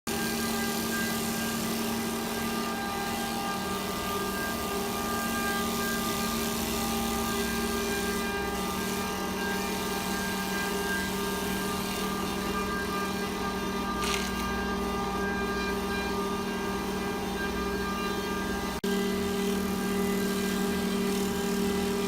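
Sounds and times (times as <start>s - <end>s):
wood lathe whining: 0.1s - 22.0s.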